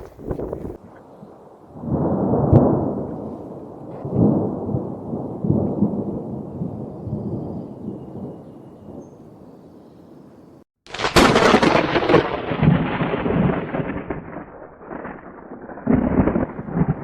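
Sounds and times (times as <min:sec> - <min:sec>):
thunder rumbling: 0:00.0 - 0:10.3, 0:10.9 - 0:17.0.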